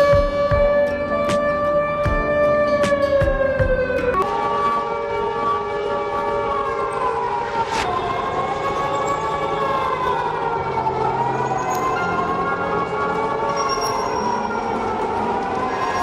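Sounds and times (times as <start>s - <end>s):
wailing alarm siren: 0.0s - 16.0s.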